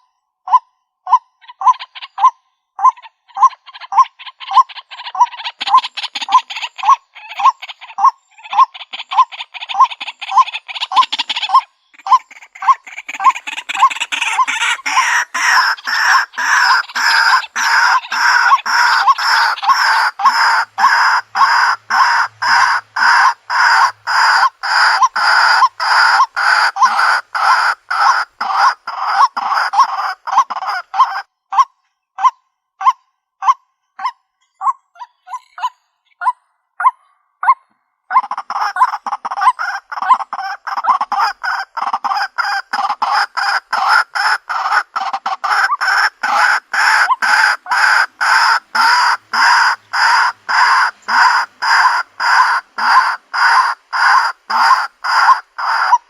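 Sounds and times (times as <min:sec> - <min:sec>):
waterhen croaking calls: 0:00.0 - 0:56.0.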